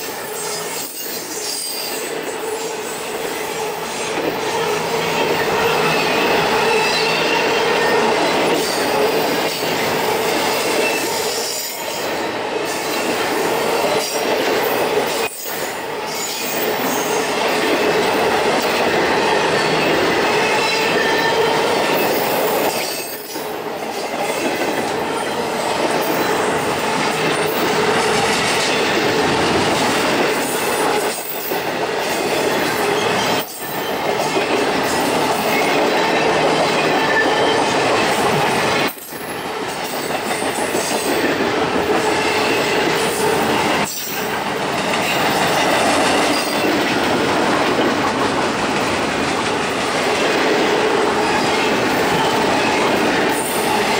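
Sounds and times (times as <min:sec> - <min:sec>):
steel train wheels on rails: 0:00.0 - 0:53.9.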